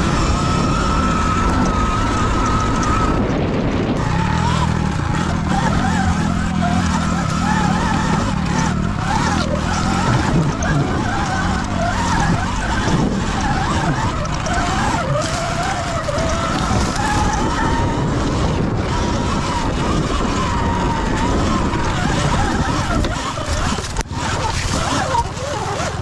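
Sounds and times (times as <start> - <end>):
electric dirt bike motor whining: 0.0 - 26.0.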